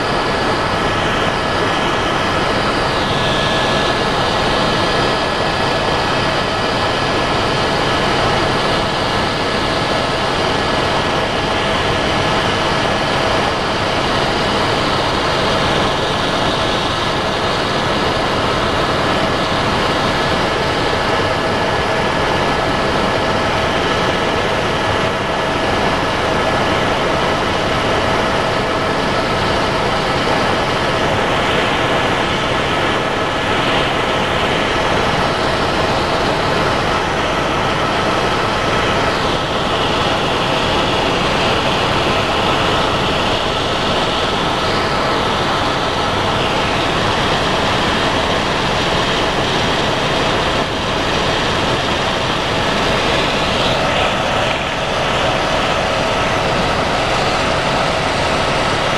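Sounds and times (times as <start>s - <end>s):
helicopter rotor and turbine rush: 0.0s - 58.9s
steady whining tones: 0.0s - 58.9s.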